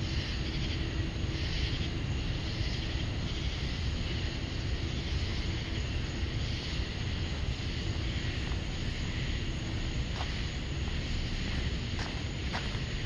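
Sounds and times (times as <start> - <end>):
insects singing shrill pulse: 0.0 - 13.0
steady low rumble: 0.0 - 13.0.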